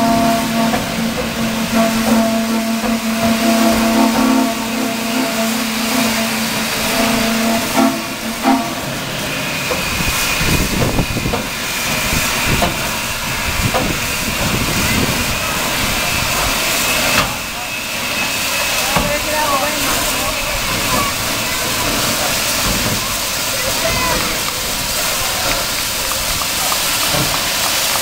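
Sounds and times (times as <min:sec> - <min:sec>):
low engine rumble: 0:00.0 - 0:28.0
steam hissing: 0:00.0 - 0:28.0
steam locomotive whistle: 0:00.0 - 0:28.0.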